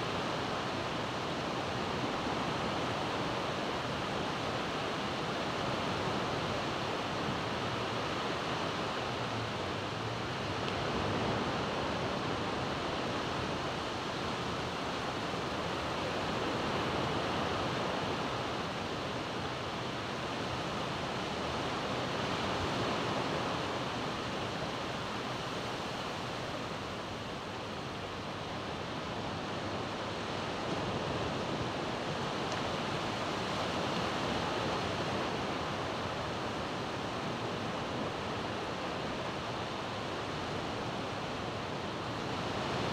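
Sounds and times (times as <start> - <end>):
waves breaking on beach: 0.1 - 42.9.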